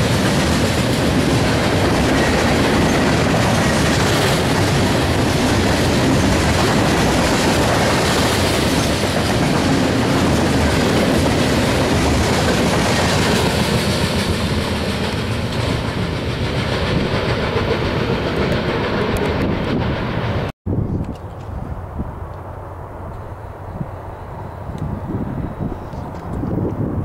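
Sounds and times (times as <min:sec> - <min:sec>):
freight train wheels rolling on rail: 0:00.0 - 0:27.0.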